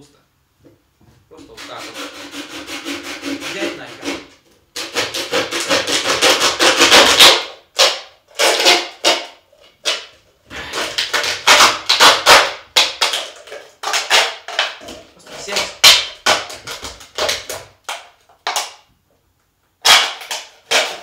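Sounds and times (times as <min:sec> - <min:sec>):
handsaw sawing plastic bottle: 0:01.3 - 0:18.0, 0:19.9 - 0:21.0.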